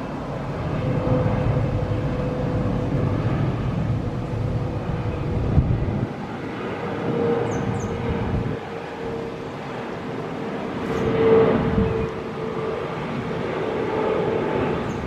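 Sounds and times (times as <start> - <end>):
distant jet engine whine: 0.0 - 15.0.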